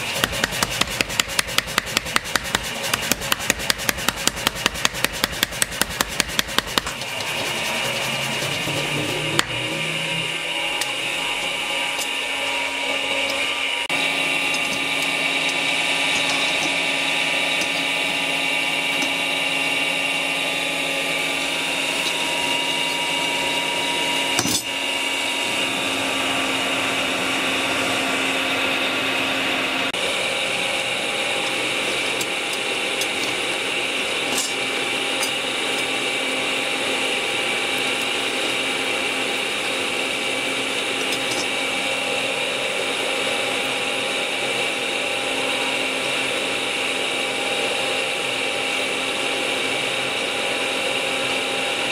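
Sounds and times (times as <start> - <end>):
electric blower motor whine: 6.4 - 51.9.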